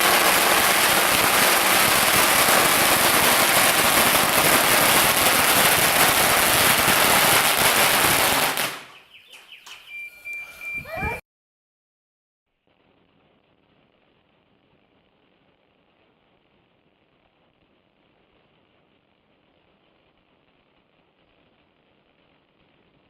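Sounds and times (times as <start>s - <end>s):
firecrackers crackling: 0.0s - 9.7s, 12.6s - 23.0s.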